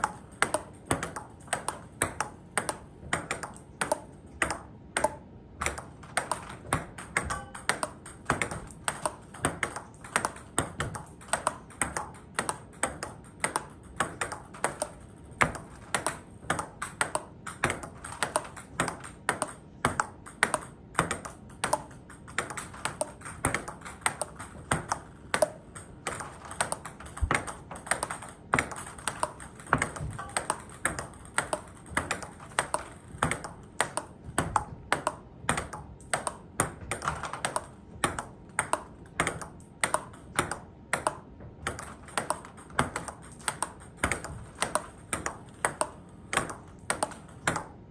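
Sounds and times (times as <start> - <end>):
table tennis ball clicking: 0.0 - 47.9.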